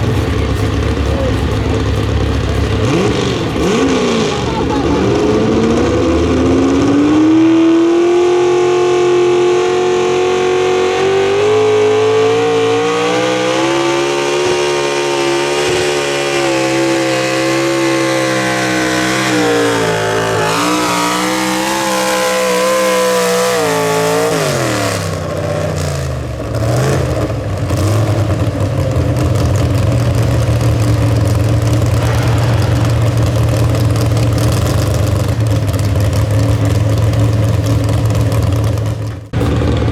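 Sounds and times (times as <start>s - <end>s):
truck engine revving under load: 0.0s - 39.9s.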